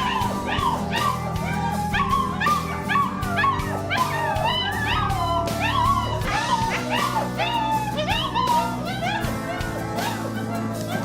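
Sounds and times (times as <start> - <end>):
background music: 0.0 - 11.0
puppies yipping and whining: 0.0 - 11.0.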